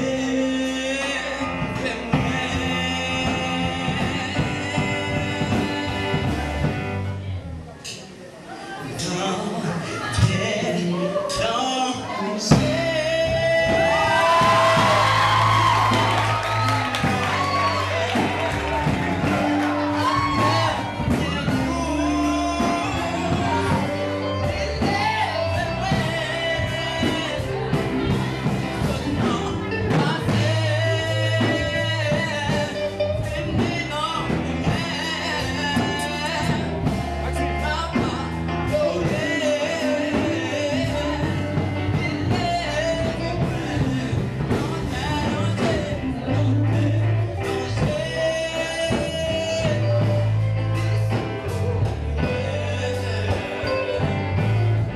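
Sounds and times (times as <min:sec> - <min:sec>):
man singing into a microphone: 0:00.0 - 0:07.3, 0:08.7 - 0:54.9
amplified musical accompaniment: 0:00.0 - 0:07.9, 0:09.0 - 0:54.9.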